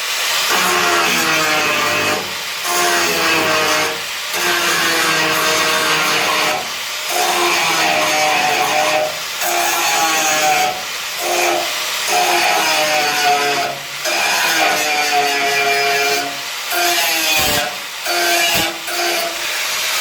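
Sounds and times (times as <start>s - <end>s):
angle grinder grinding steel: 0.0s - 20.0s.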